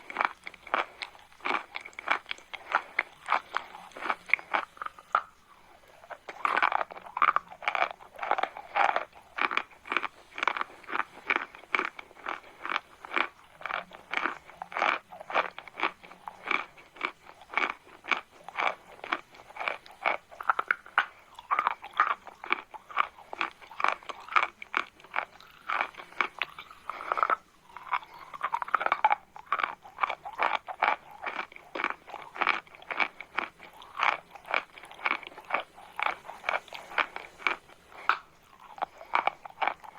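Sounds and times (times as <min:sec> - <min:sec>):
chewing chalk crunches: 0:00.0 - 0:39.9.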